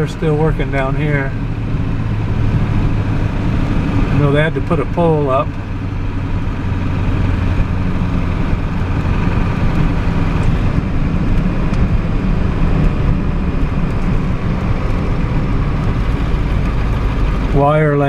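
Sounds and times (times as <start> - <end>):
truck engine humming: 0.0 - 18.0.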